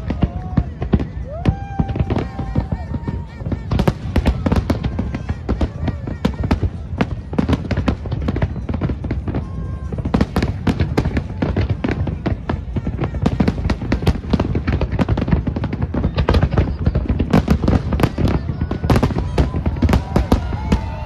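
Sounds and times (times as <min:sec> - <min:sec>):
deep rumble of firework booms: 0:00.0 - 0:21.0
firework bangs and crackles: 0:00.0 - 0:21.0.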